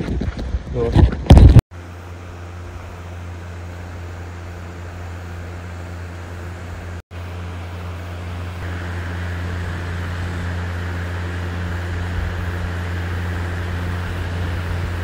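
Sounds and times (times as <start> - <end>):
motor humming with rushing hiss: 1.7 - 15.0.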